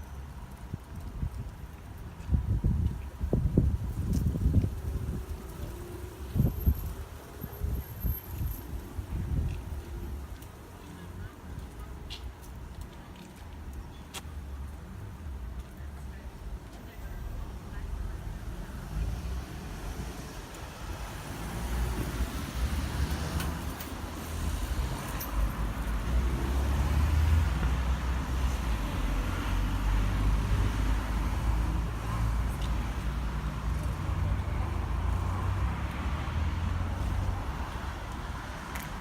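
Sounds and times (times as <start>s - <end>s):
road traffic rumble: 0.0s - 39.0s.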